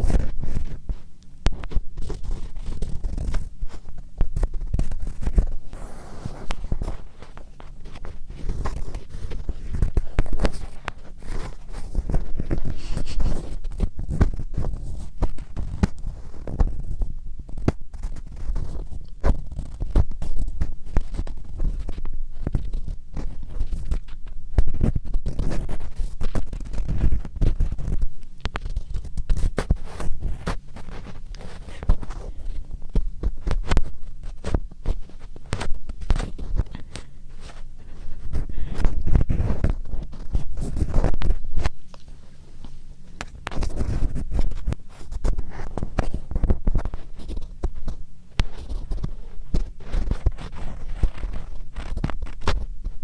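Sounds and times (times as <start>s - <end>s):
crackly scratching on microphone: 0.0s - 53.0s.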